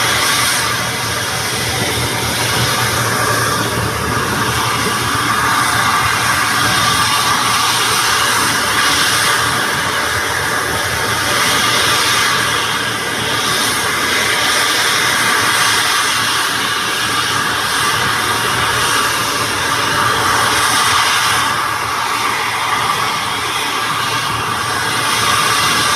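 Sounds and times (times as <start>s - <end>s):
jet engine running: 0.0s - 25.9s.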